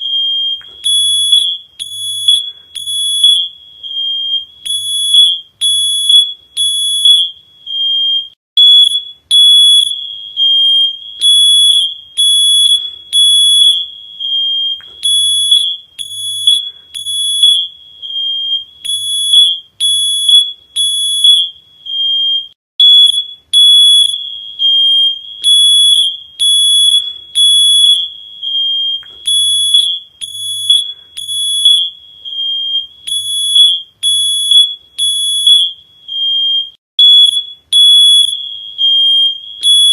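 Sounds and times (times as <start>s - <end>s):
smoke alarm beeping: 0.0s - 39.9s.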